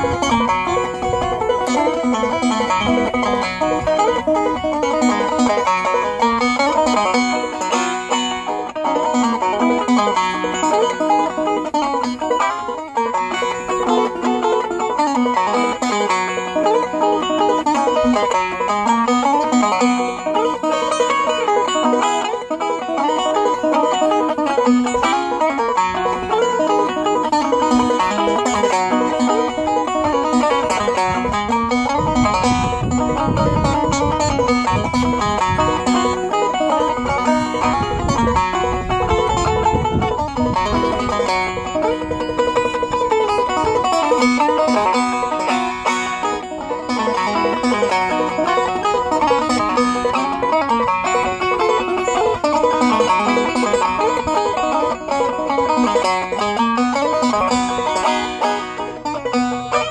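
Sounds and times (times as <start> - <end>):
banjo tune: 0.0 - 59.9.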